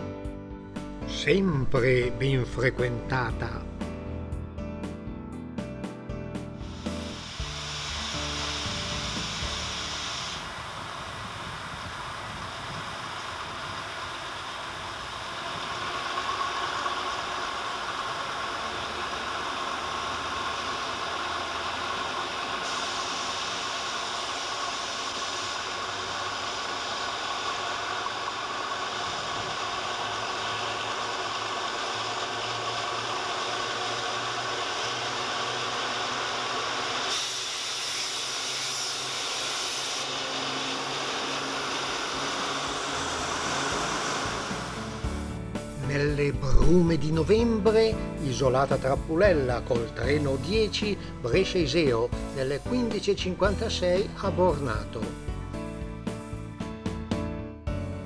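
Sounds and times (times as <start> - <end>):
diesel locomotive engines: 5.5 - 57.2
sharp hiss: 6.4 - 56.2.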